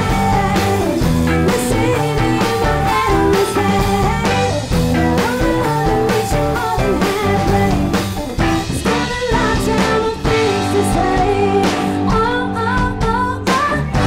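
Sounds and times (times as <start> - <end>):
drum kit: 0.0 - 14.0
electric guitar: 0.0 - 14.0
woman singing lead vocal: 0.0 - 14.0.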